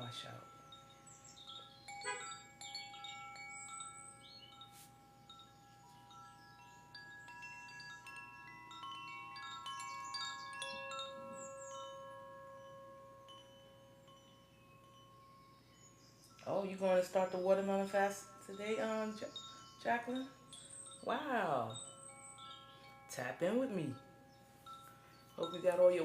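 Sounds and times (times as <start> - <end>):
wind chimes ringing: 0.0 - 26.0.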